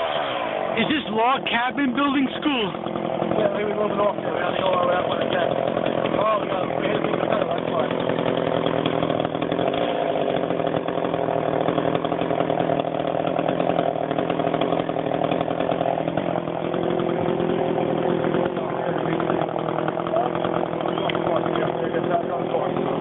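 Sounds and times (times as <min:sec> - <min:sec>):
chainsaw running: 0:00.0 - 0:23.0.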